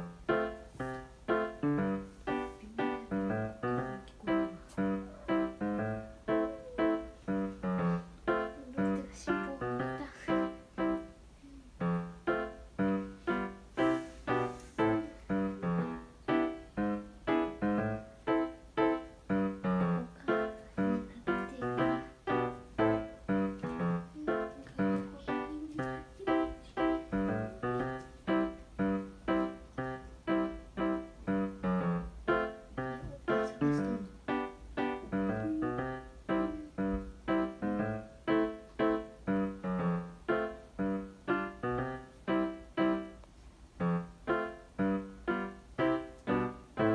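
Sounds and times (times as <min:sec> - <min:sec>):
gentle piano melody: 0:00.0 - 0:46.9.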